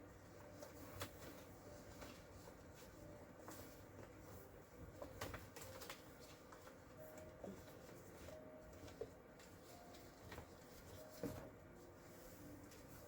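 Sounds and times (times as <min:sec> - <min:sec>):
paper taps and rustles: 0:00.4 - 0:04.3, 0:04.9 - 0:11.5.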